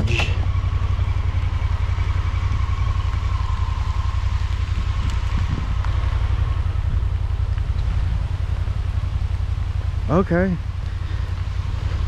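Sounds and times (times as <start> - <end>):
utility vehicle engine idling: 0.0 - 12.0.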